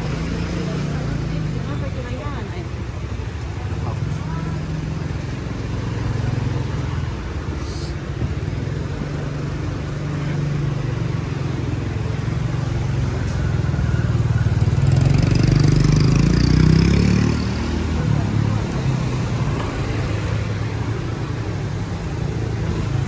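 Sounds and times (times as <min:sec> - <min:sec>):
car and motorcycle engines: 0:00.0 - 0:23.0.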